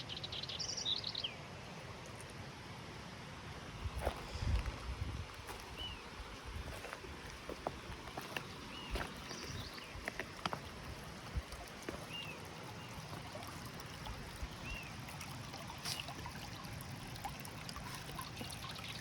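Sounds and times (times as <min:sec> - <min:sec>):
stream rushing over rocks: 0:01.4 - 0:19.0.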